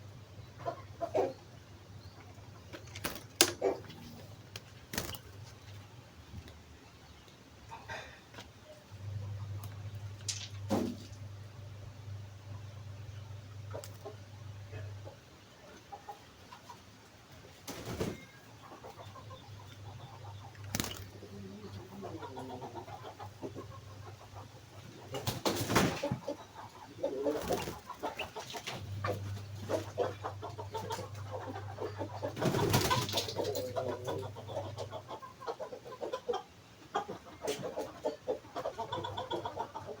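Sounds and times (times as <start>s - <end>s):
background bird calls: 0.0s - 40.0s.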